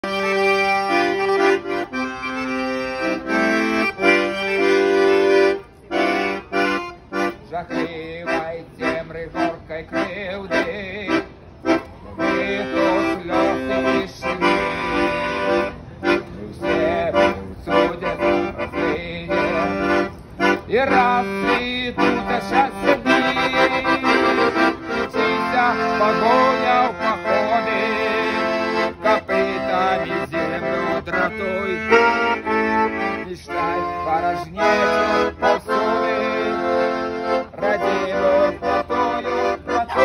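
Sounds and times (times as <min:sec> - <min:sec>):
solo accordion playing: 0:00.0 - 0:40.0.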